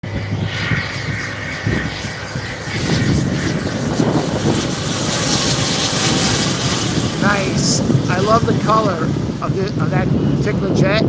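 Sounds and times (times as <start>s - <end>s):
jet engines roaring with whine: 0.0s - 11.0s.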